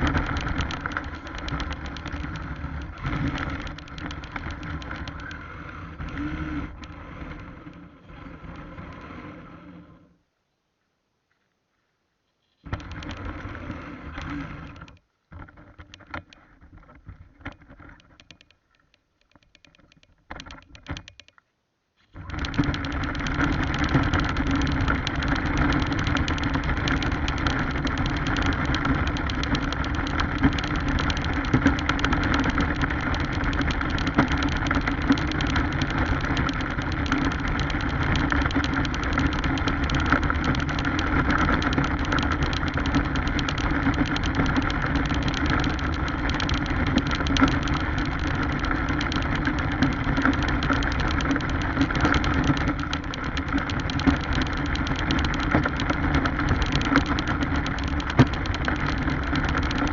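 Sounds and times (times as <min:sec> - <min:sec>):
radio-controlled car motor and gears: 0:00.0 - 0:10.2, 0:12.6 - 0:15.0, 0:22.2 - 0:59.9.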